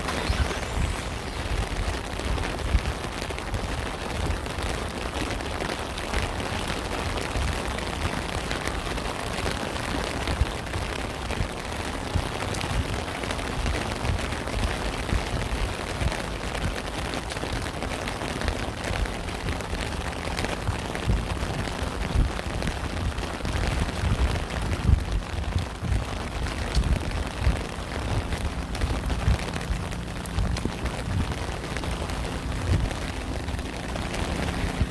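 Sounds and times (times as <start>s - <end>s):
deep low rumble: 0.0s - 34.9s
heavy rain: 0.0s - 34.9s.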